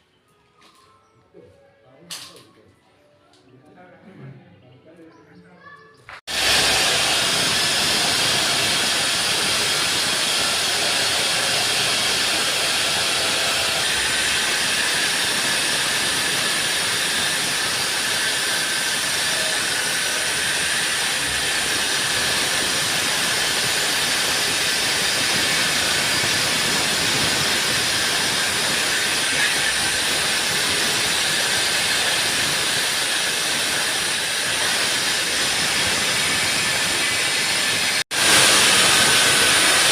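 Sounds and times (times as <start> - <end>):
concrete cutter grinding: 6.3 - 39.9.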